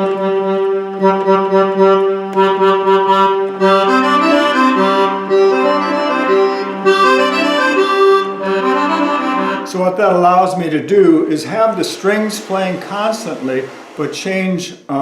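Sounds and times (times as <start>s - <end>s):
digital accordion melody: 0.0s - 9.9s, 11.5s - 14.1s
orchestral strings: 0.0s - 10.2s, 11.0s - 14.6s.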